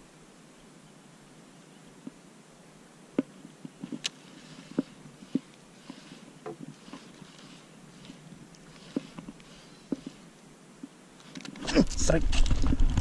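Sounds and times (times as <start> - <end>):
faint hiss: 0.0 - 12.6.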